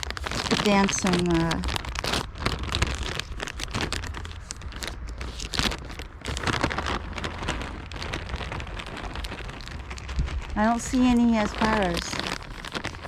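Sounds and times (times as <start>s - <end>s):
bag crinkling: 0.0s - 13.0s
birdseed pattering: 0.0s - 13.0s
low rumble: 0.0s - 13.0s.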